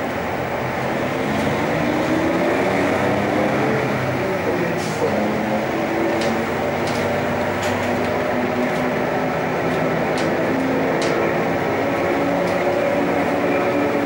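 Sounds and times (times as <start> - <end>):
vehicle rumble and motor hum: 0.0 - 14.0.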